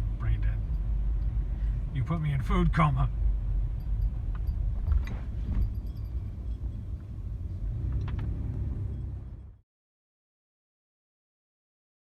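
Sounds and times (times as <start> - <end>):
road and engine rumble in car: 0.0 - 9.6.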